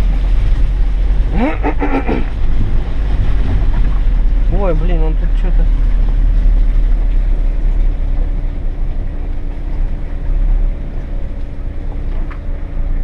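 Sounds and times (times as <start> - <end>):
van engine rumbling: 0.0 - 13.0.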